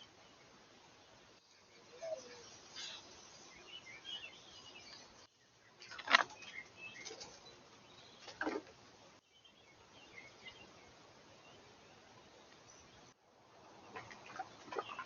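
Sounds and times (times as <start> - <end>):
faint outdoor background noise: 0.0 - 15.0
small birds chirping: 0.0 - 15.0.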